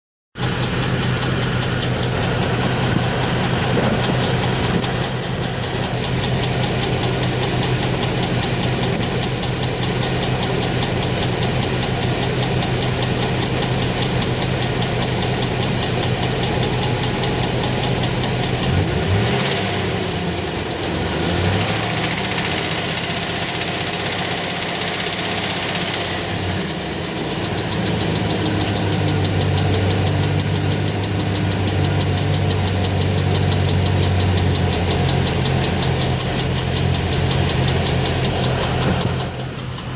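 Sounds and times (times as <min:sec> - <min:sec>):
engine idling with knock: 0:00.4 - 0:39.9.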